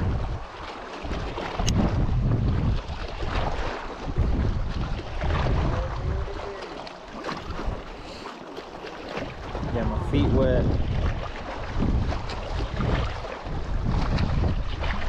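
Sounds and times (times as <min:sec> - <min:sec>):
wind buffeting microphone: 0:00.0 - 0:08.2, 0:09.1 - 0:15.0.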